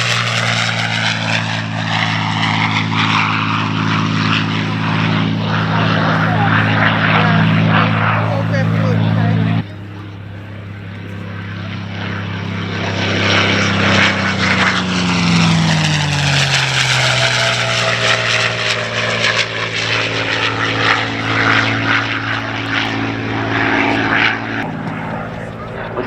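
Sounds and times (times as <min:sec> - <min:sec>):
propeller plane engine passing: 0:00.0 - 0:26.0.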